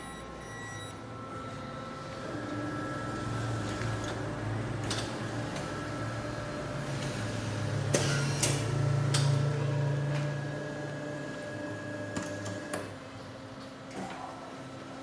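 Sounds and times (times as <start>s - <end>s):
printer motor hum: 0.0s - 13.9s.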